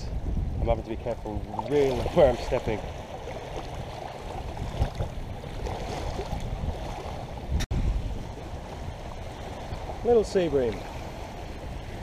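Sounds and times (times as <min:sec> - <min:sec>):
wind rumbling over microphone: 0:00.0 - 0:12.0
small waves lapping: 0:00.8 - 0:12.0.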